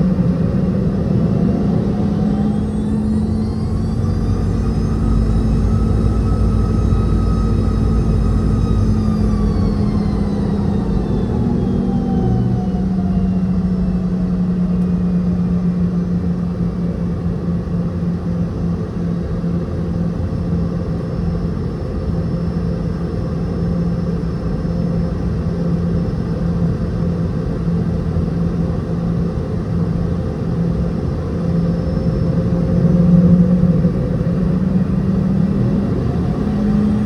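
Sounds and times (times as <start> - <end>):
jet engines humming in cabin: 0.0 - 37.0.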